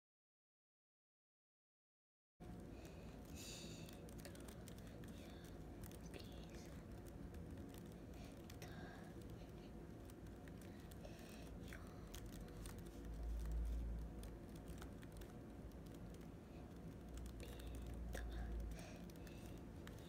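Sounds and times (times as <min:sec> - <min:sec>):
laptop keyboard typing: 0:02.4 - 0:20.0.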